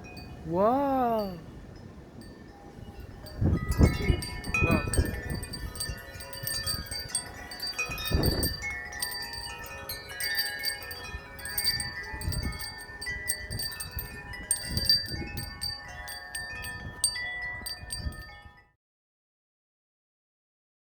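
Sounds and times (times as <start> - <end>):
wind chimes ringing: 0.0 - 18.7
wind gusts rumbling: 1.4 - 18.2.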